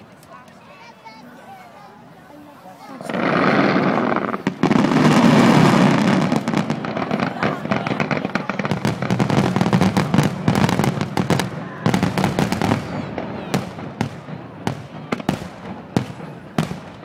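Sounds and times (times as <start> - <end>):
fireworks crackling and banging: 2.7 - 17.0.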